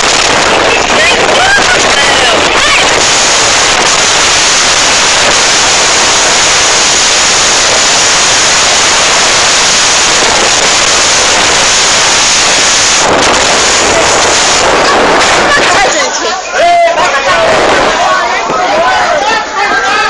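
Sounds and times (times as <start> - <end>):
strong wind: 0.0 - 16.2, 16.8 - 19.1
rough sea breaking against ship: 0.0 - 19.0.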